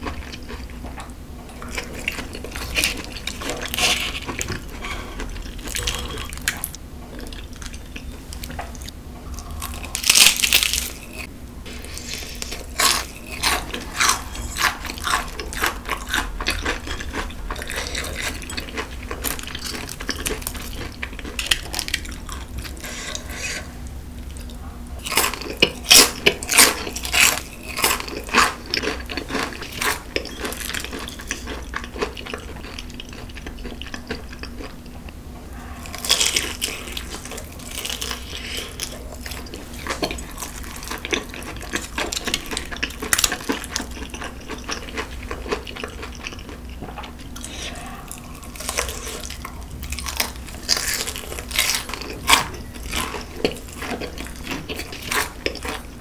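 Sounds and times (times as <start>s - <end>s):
crunching and chewing: 0.0s - 56.0s.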